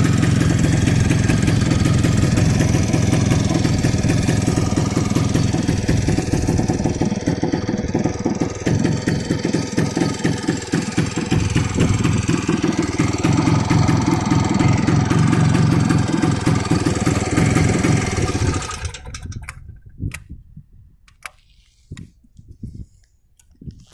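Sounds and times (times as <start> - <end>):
motorcycle engine uneven pulse: 0.0 - 20.2.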